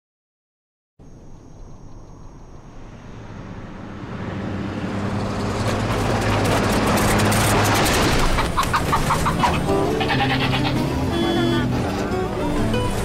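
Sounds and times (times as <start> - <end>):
bus engine humming: 2.3 - 13.0.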